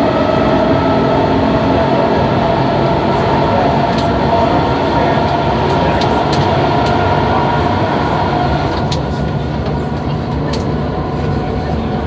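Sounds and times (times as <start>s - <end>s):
steady drive whine: 0.0s - 12.0s
train wheels rumbling on rail: 0.0s - 12.0s.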